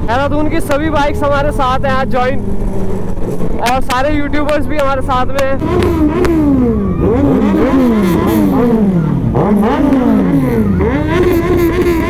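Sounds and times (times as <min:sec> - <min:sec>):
superbike engines revving: 0:00.0 - 0:12.0.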